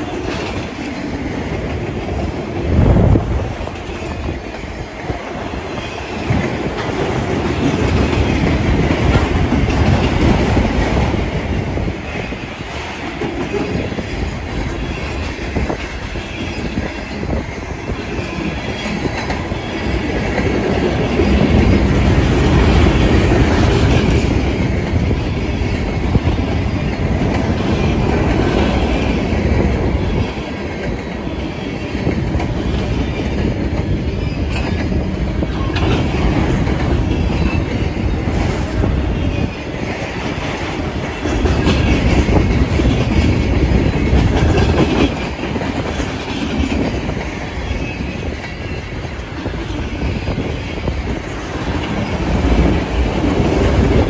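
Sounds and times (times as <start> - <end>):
freight train wheels rumbling on rails: 0.0 - 54.0
wheels clacking over rail joints: 0.0 - 54.0.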